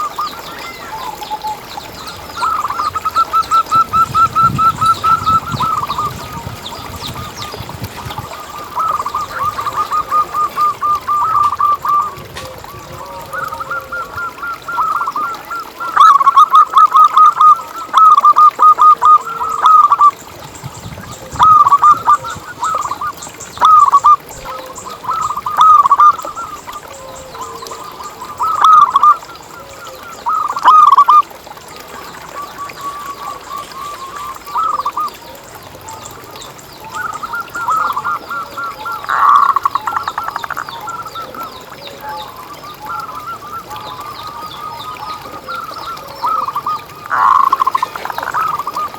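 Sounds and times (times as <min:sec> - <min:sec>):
dove cooing in staccato notes: 0:02.1 - 0:20.2, 0:21.1 - 0:31.9, 0:36.9 - 0:48.9.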